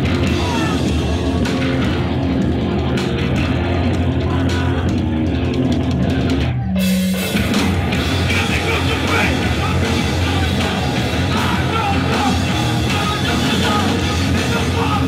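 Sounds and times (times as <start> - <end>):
hardcore band playing live: 0.0 - 15.0.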